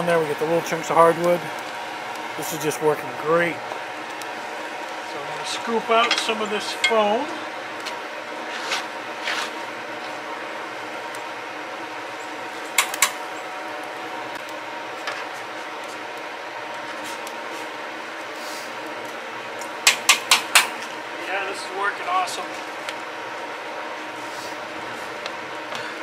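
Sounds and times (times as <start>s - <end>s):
electric blower fan running: 0.0s - 26.0s.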